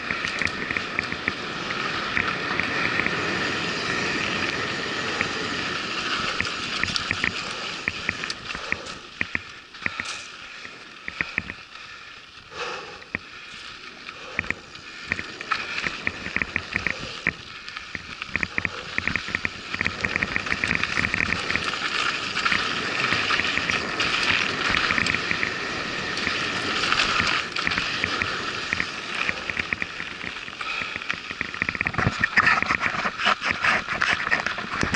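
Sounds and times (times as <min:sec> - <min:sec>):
bike rattling clicks: 0:00.0 - 0:34.9
bike tyre and wind rush: 0:00.0 - 0:34.9.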